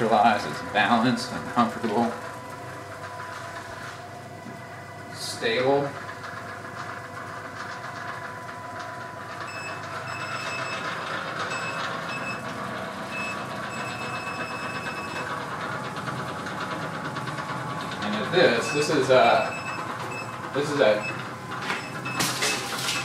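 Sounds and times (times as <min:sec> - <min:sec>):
vibration platform motor hum: 0:00.0 - 0:23.0.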